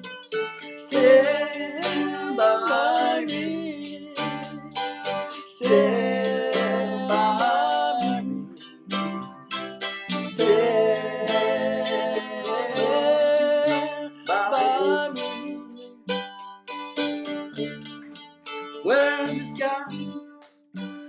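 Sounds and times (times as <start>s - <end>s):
mandolin melody: 0.0s - 21.0s.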